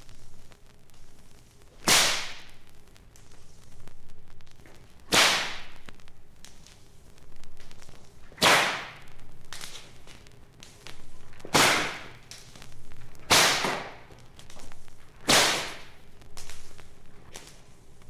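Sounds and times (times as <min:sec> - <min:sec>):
sharp cracks with hiss: 0:00.0 - 0:18.0.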